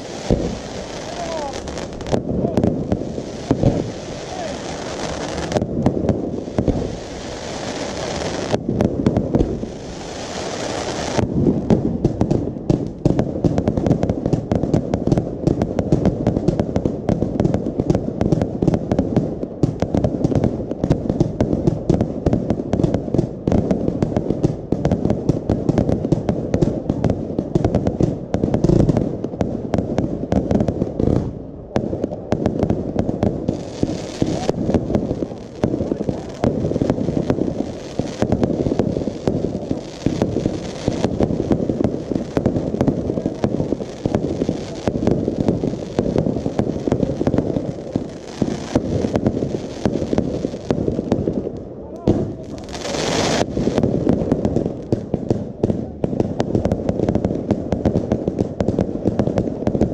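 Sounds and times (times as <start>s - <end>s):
fireworks bursting: 0.0s - 59.9s
fireworks hissing: 0.0s - 59.9s.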